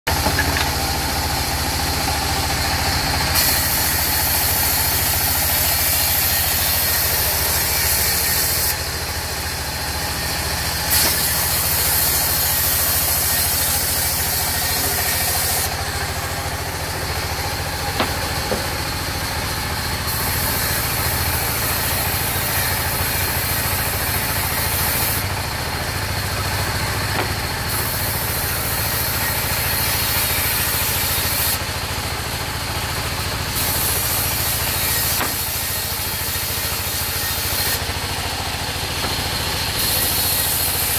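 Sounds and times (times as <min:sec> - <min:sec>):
saw blade hissing through timber: 0:00.1 - 0:32.4, 0:33.0 - 0:40.9
band saw drive drone: 0:00.1 - 0:40.9.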